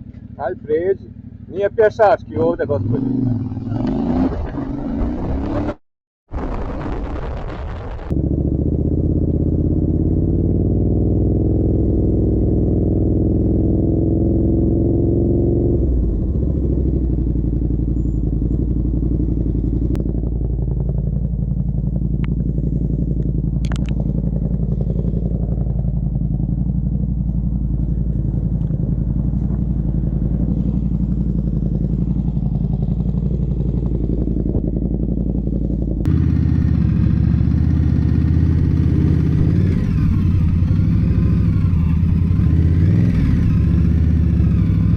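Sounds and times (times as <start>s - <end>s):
motorcycle engine running: 0.0s - 5.8s, 8.1s - 44.9s.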